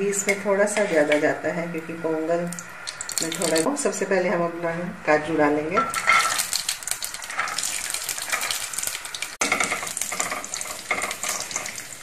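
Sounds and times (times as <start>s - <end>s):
nuts sizzling in hot fat: 0.0s - 4.0s, 5.8s - 12.0s.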